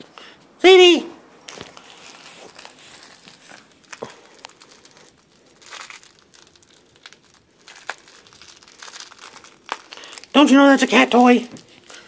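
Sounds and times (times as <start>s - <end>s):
toy crinkling and rustling: 1.4s - 12.0s.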